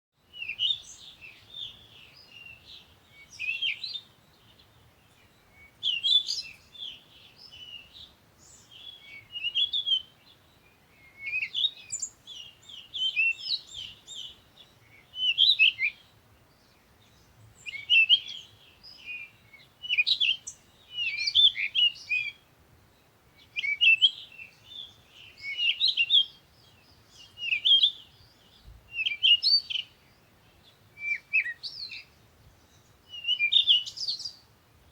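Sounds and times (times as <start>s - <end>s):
birds chirping and trilling: 0.3s - 34.9s.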